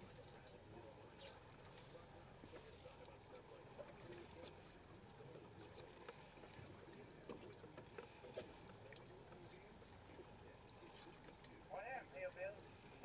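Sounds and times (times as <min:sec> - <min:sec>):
water lapping at boat hull: 0:00.0 - 0:13.0.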